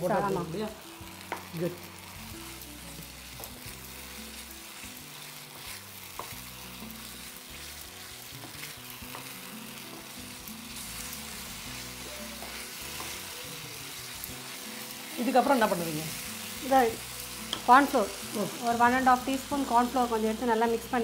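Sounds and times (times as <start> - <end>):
gravy sizzling in a pan: 0.0 - 21.0.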